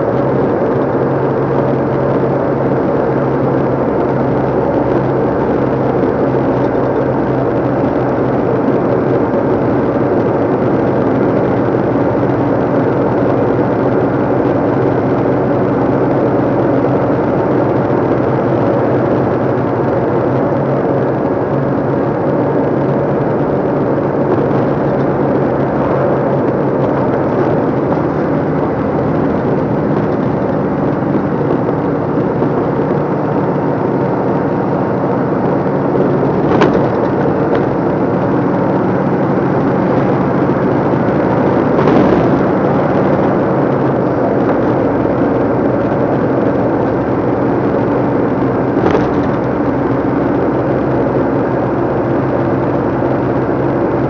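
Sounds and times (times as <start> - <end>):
lorry diesel engine running: 0.0 - 54.0
road noise: 0.0 - 54.0.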